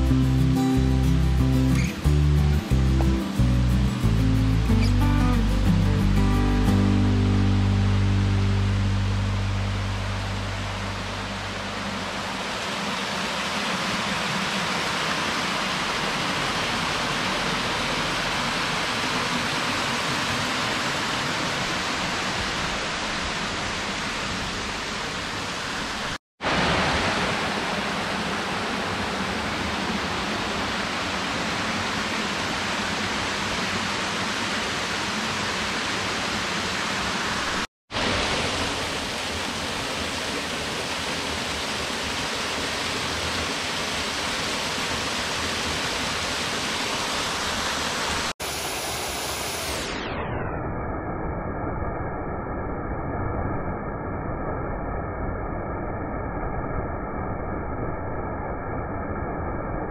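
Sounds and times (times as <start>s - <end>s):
water cascading over rocks: 0.0s - 49.9s.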